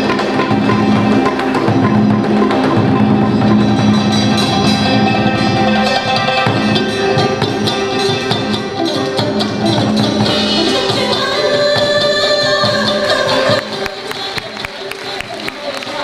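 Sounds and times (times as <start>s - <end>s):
traditional music with singing: 0.0s - 16.0s.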